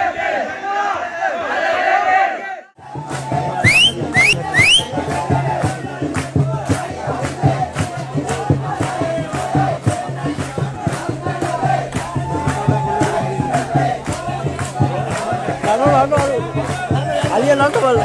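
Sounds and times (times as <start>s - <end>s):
crowd singing and chanting: 0.0s - 18.0s
steady drum beat: 2.8s - 18.0s.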